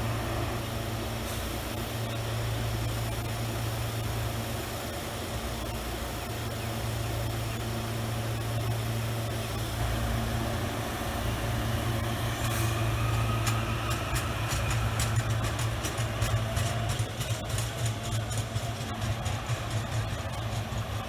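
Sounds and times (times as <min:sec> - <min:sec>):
diesel locomotive engine humming: 0:00.0 - 0:21.0.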